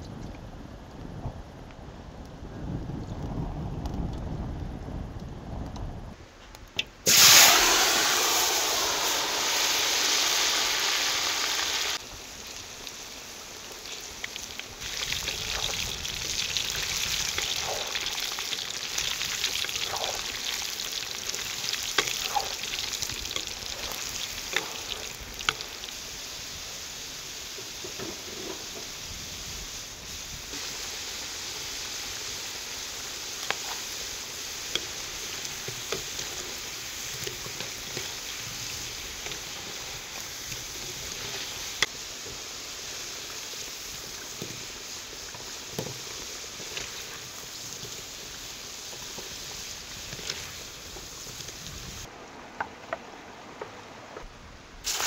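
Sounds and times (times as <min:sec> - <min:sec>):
potatoes sizzling in hot oil: 0:07.0 - 0:52.1.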